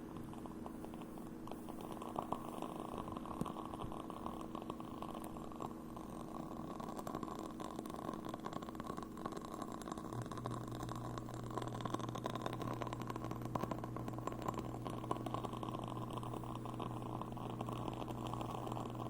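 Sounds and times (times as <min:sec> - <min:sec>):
candles crackling: 0:00.0 - 0:19.0
low steady hum: 0:00.0 - 0:19.0.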